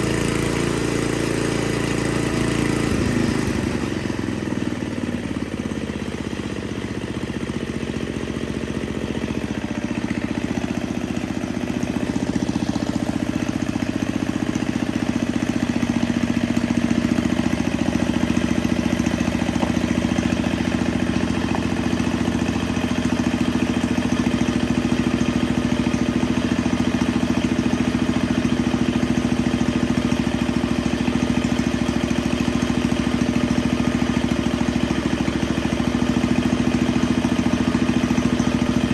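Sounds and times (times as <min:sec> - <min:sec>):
snowblower engine idling: 0:00.0 - 0:38.9.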